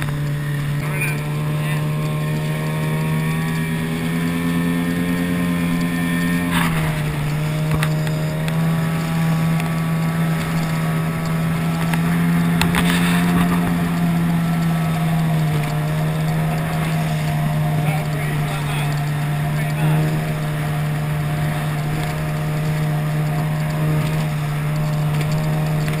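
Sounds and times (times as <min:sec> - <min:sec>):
outboard motor running: 0:00.0 - 0:26.0
water noise: 0:00.0 - 0:26.0
wind: 0:00.0 - 0:26.0.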